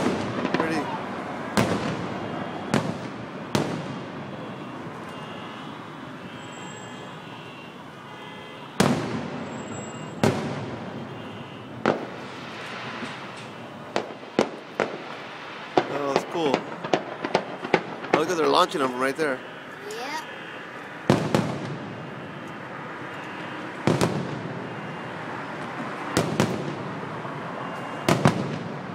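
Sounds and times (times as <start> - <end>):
fireworks booming: 0.0 - 6.7, 8.6 - 28.9.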